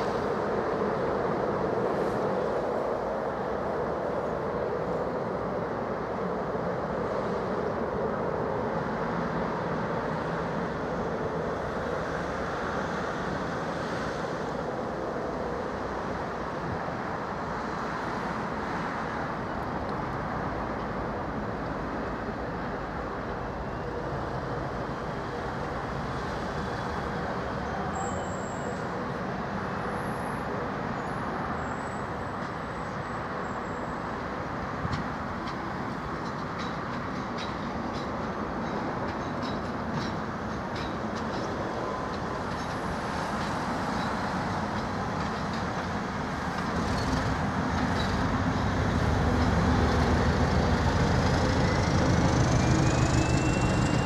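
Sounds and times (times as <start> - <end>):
locomotive and coaches rumbling: 0.0 - 54.0.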